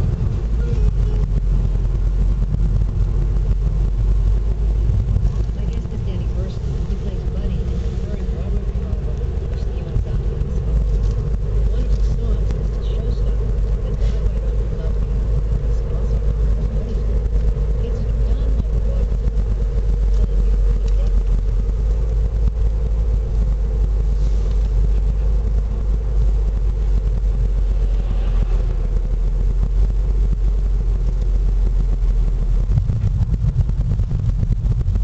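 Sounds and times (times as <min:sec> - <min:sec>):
car tyres and engine rumble: 0:00.0 - 0:35.0.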